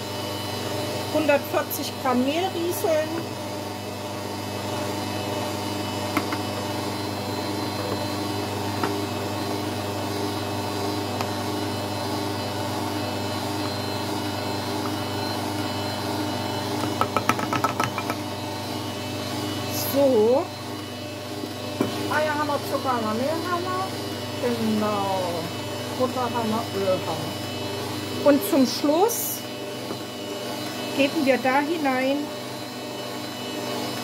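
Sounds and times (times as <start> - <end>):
stand mixer motor running: 0.0 - 34.0.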